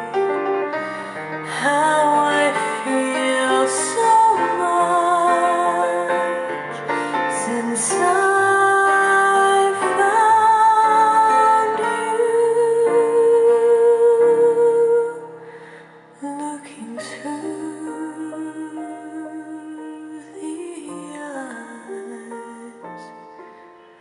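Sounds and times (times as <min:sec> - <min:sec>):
piano chords: 0:00.0 - 0:24.0
woman singing wordlessly: 0:01.5 - 0:06.5, 0:07.3 - 0:15.2, 0:16.2 - 0:23.2.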